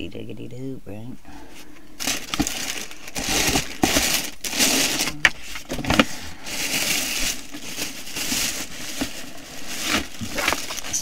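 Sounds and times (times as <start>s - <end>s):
packaging rustling and crinkling: 1.5s - 11.0s.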